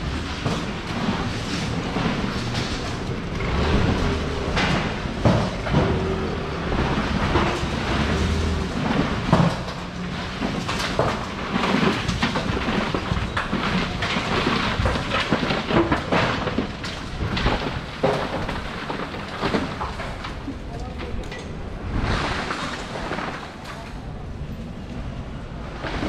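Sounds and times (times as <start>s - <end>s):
rain: 0.0s - 5.3s, 5.9s - 26.0s
knocks and clatter: 0.0s - 24.1s, 25.6s - 26.0s
traffic: 0.0s - 26.0s.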